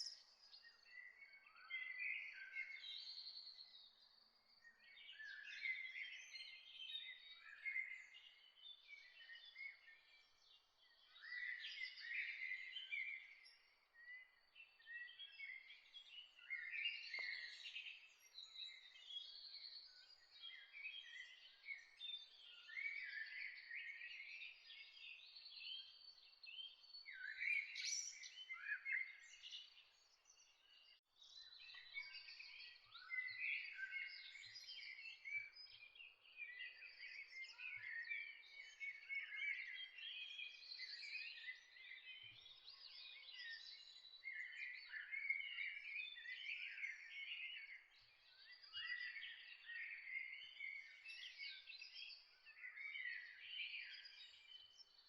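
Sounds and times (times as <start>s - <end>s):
birds singing and chirping: 0.0s - 55.0s.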